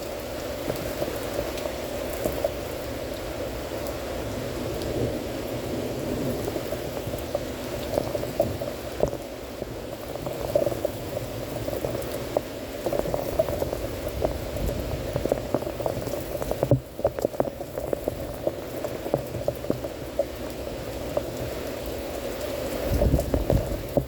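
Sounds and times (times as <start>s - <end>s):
torrential rain splashing: 0.0s - 24.0s.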